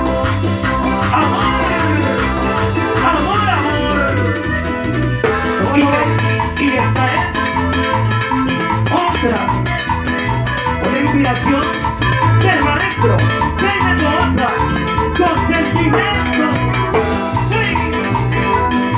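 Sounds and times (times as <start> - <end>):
latin dance band playing: 0.0 - 18.9.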